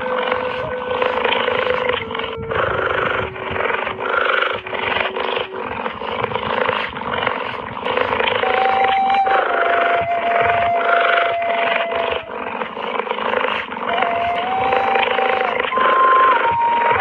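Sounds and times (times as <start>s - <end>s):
animal making rough noisy calls: 0.0s - 17.0s.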